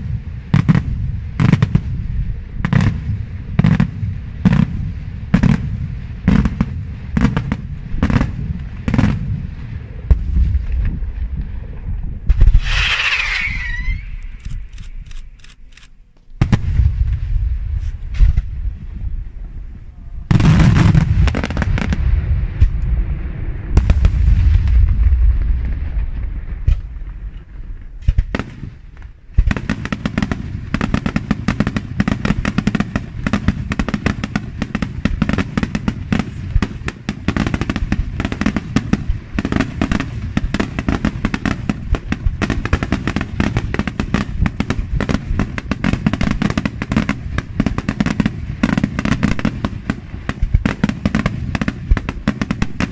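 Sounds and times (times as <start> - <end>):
fireworks booming: 0.0 - 15.2, 16.0 - 52.9
crackling fireworks stars: 0.0 - 52.9.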